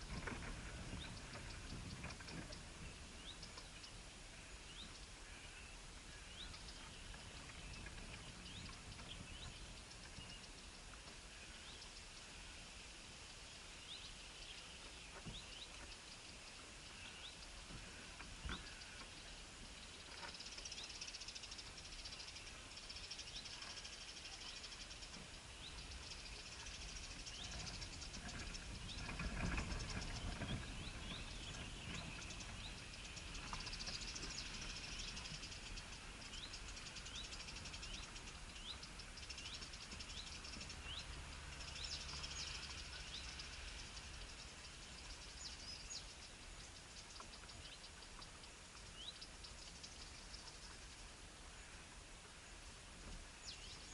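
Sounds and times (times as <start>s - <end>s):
faint high hiss: 0.0s - 53.9s
small birds chirping: 0.0s - 53.9s.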